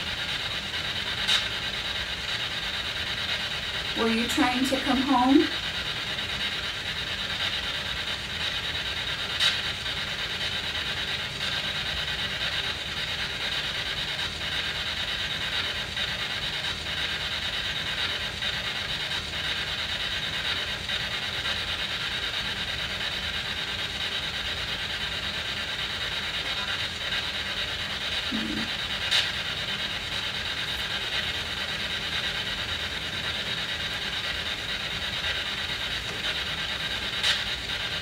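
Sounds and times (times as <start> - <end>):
radio static hiss with ticks: 0.0 - 6.6, 7.2 - 38.0.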